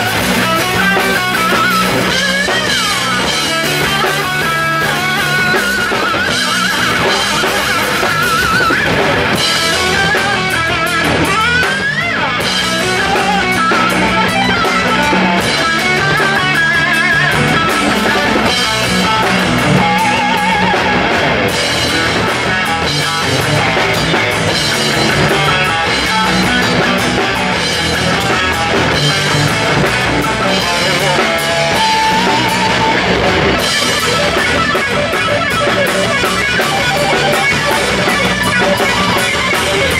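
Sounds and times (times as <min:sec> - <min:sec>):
drum kit: 0:00.0 - 0:39.9
electric guitar bent lead notes: 0:00.0 - 0:39.9.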